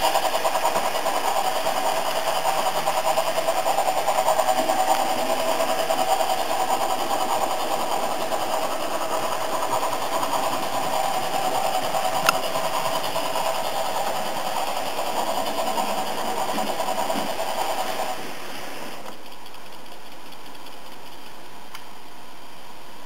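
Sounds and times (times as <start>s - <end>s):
model motor whirring: 0.0s - 21.4s
steam engine running sound: 0.0s - 23.0s.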